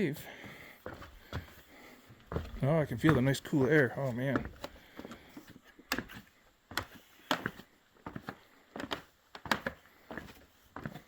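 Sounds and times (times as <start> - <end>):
footsteps going down stairs: 0.0 - 11.0.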